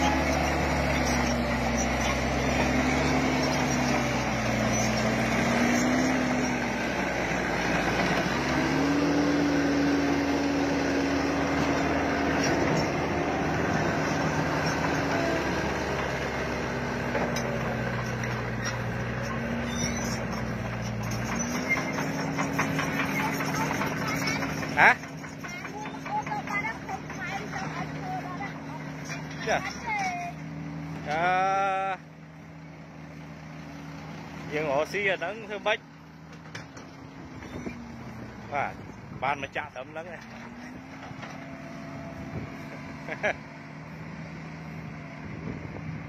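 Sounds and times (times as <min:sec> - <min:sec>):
diesel engine humming: 0:00.0 - 0:46.0.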